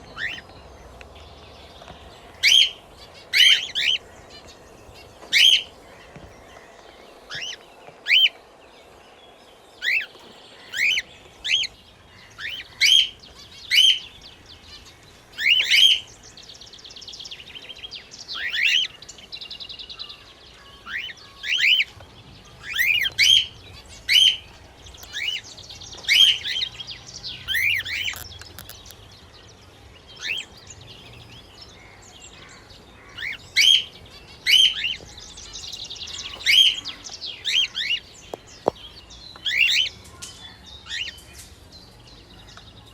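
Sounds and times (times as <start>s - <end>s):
birds chirping: 0.0s - 42.9s
soft buzzy bird chatter: 0.0s - 42.9s.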